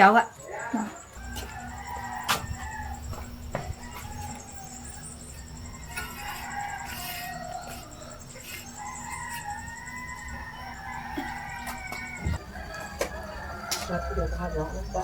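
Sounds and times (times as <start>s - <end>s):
rooster crowing: 0.8s - 14.8s.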